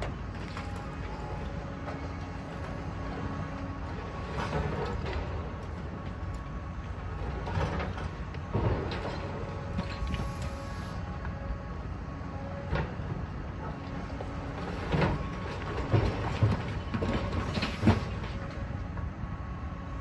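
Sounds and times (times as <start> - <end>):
machinery engine rumble: 0.0 - 20.0.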